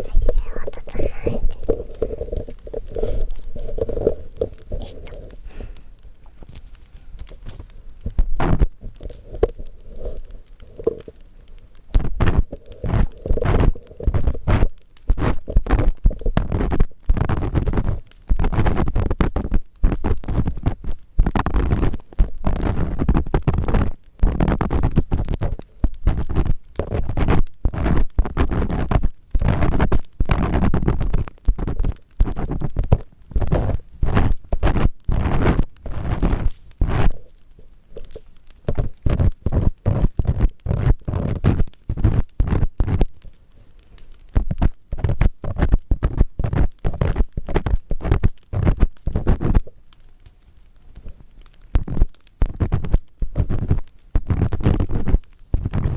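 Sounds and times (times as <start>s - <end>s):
earpick scraping inside microphone ear: 0.0s - 5.3s, 8.4s - 11.0s, 12.0s - 37.2s, 38.7s - 43.2s, 44.4s - 49.6s, 51.8s - 55.9s.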